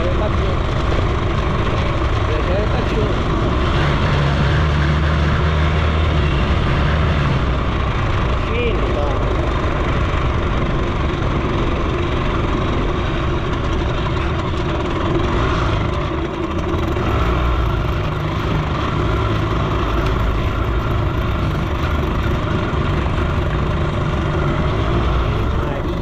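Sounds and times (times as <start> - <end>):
moped engine running: 0.0 - 26.0.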